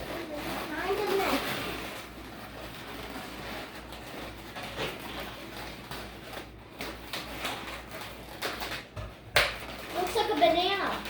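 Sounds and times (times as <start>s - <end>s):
latex balloons rubbing and clicking: 0.0s - 11.0s.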